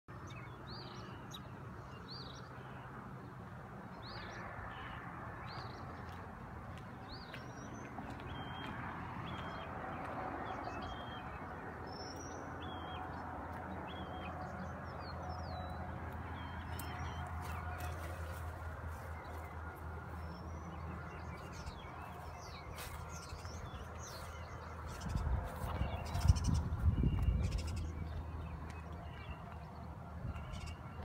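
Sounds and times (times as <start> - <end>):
birds chirping: 0.1 - 31.0.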